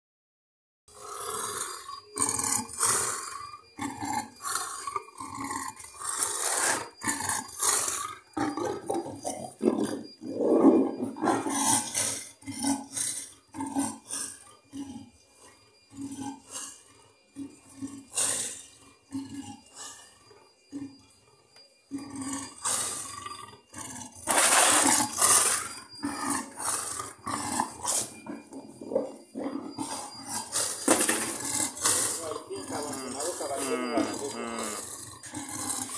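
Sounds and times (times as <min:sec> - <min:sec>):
leopard growling and snarling: 0:00.9 - 0:21.2, 0:21.9 - 0:35.9.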